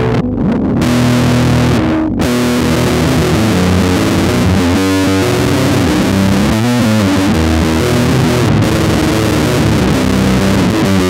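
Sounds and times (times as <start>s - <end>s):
distorted electric bass riff: 0.0s - 11.0s.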